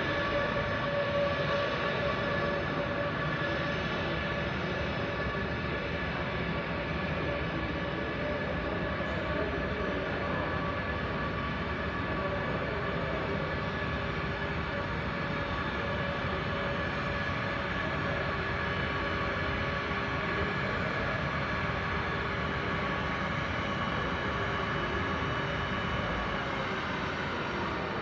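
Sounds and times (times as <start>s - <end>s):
jet turbine whine: 0.0s - 28.0s.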